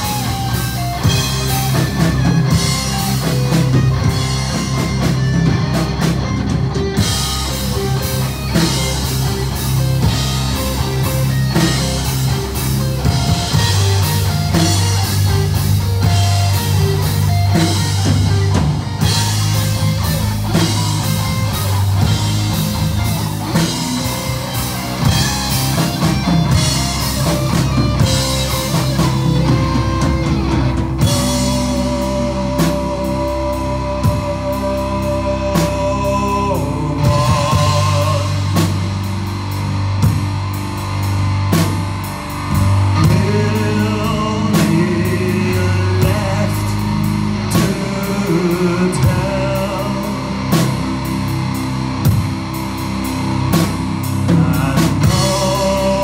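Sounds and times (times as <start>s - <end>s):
doom metal band playing live: 0.0s - 56.0s
held guitar notes: 0.0s - 56.0s.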